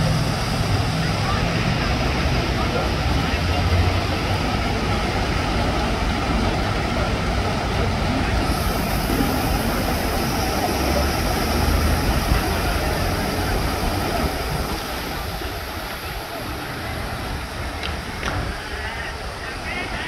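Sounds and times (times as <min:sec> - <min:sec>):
faint voices: 0:00.0 - 0:20.0
road traffic: 0:00.0 - 0:20.0.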